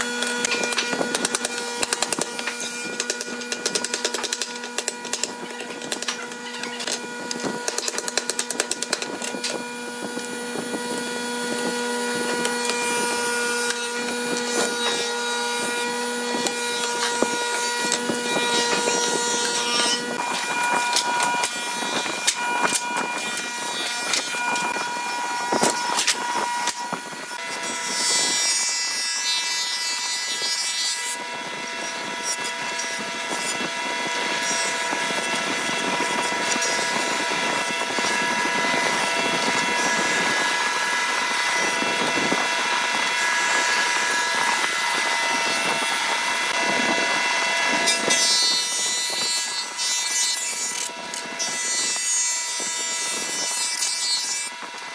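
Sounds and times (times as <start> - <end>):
jointer planing wood: 0.0 - 54.9.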